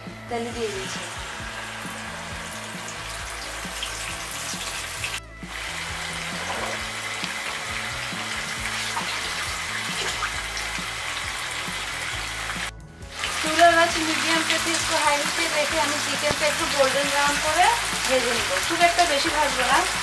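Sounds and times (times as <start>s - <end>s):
background music: 0.0s - 20.0s
chicken sizzling in oil: 0.0s - 20.0s.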